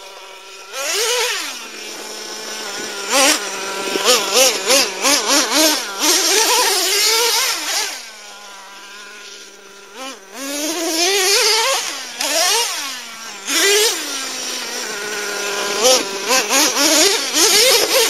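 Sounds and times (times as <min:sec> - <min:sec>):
small nitro engine revving: 0:00.0 - 0:18.0.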